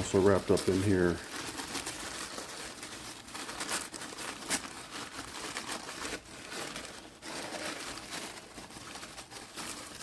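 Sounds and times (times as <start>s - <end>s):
packing material crinkling: 0.0s - 10.0s.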